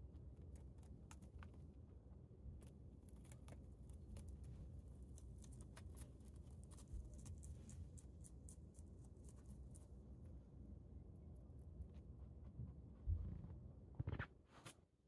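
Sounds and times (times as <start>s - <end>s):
rabbit chewing leaves: 0.0s - 12.6s.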